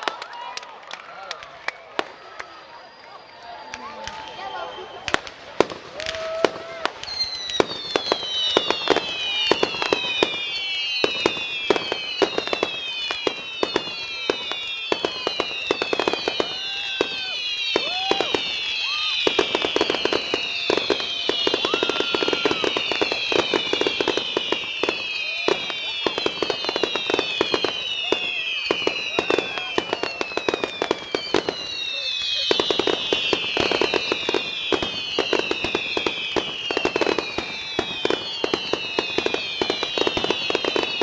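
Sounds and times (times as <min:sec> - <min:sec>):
fireworks bangs and crackles: 0:00.0 - 0:41.0
falling firework whistles: 0:01.4 - 0:41.0.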